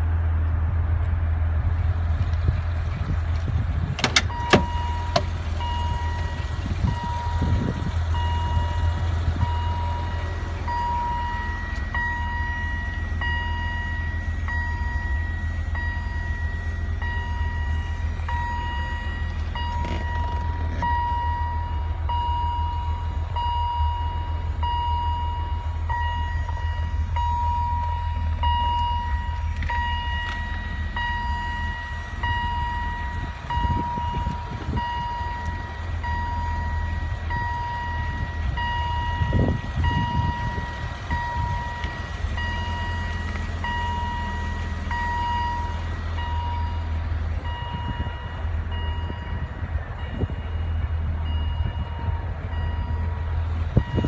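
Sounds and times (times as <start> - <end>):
car engine idling hum: 0.0 - 54.0
car warning chime beeping: 4.0 - 54.0.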